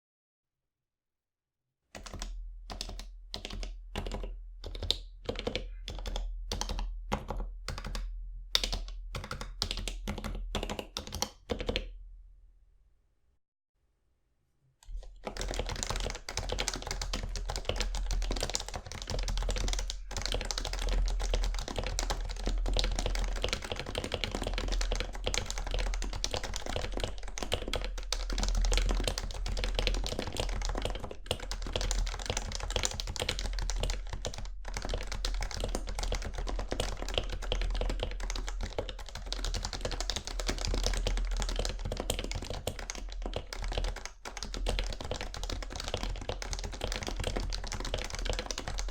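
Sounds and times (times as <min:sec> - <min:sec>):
typing on keyboard: 0:02.0 - 0:11.9, 0:14.9 - 0:48.9.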